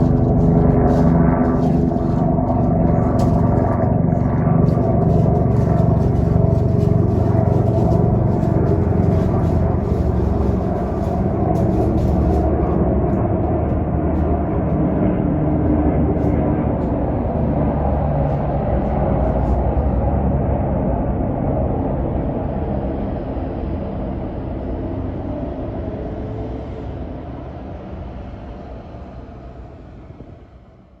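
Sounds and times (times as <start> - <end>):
helicopter flying by: 0.0 - 30.8.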